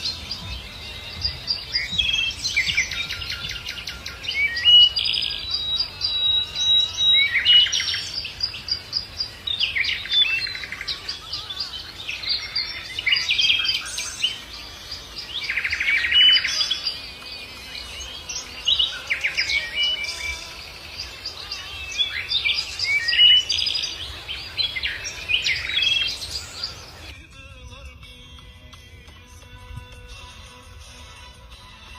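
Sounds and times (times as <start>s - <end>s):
songbirds chirping and trilling: 0.0s - 31.9s.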